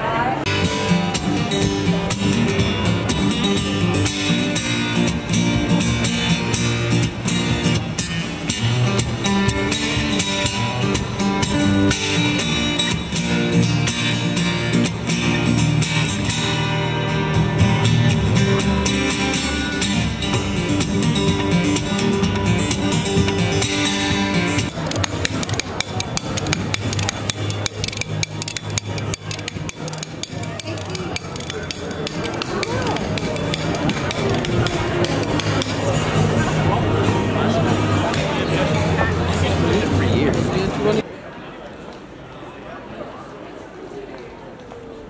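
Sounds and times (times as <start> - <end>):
acoustic guitar strumming: 0.4 - 41.0.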